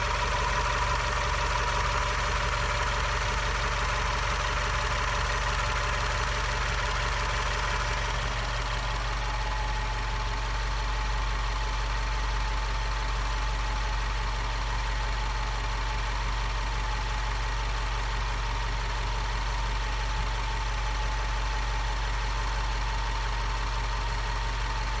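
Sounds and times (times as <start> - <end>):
car engine idling with whine: 0.0 - 25.0.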